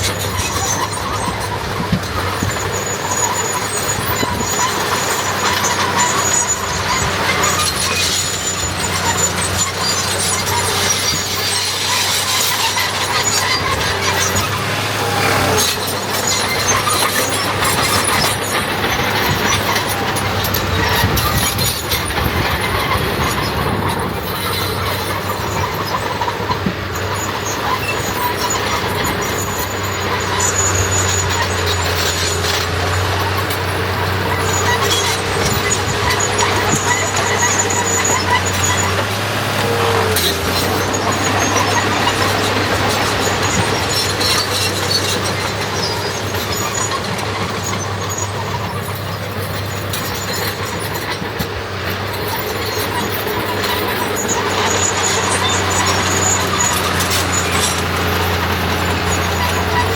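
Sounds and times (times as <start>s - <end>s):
heavy machinery engine drone: 0.0s - 59.9s.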